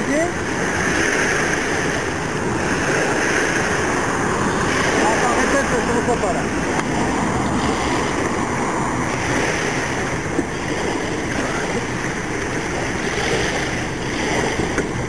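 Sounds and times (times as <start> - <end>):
sea water washing: 0.0 - 15.0
wind: 0.0 - 15.0.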